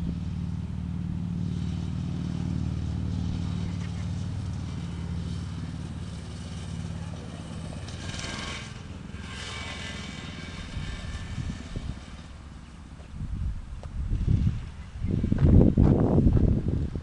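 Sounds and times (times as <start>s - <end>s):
dirt bike engine running: 0.0s - 17.0s
low rumbles: 0.0s - 17.0s.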